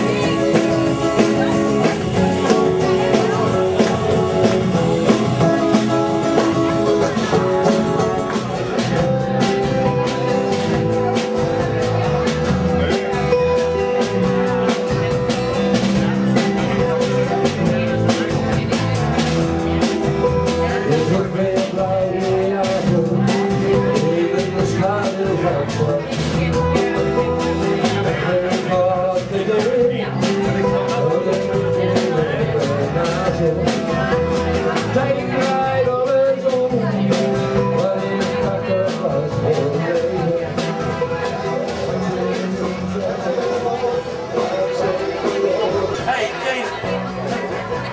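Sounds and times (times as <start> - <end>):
guitar: 0.0 - 47.9
live rock band playing: 0.0 - 47.9
steady drum beat: 0.0 - 47.9.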